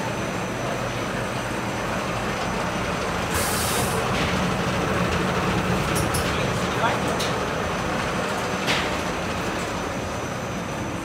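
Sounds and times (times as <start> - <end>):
production line machinery running: 0.0 - 11.0.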